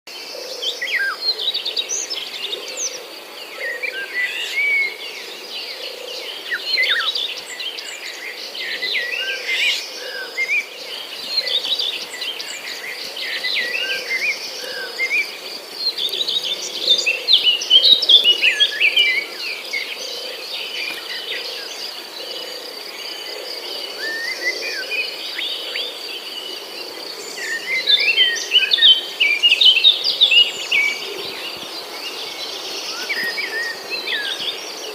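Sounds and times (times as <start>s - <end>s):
birds chirping and warbling: 0.1s - 34.9s.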